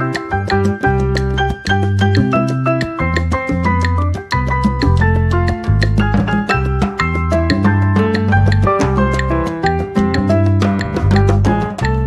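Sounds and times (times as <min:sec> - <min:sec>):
salsa-style music: 0:00.0 - 0:12.0.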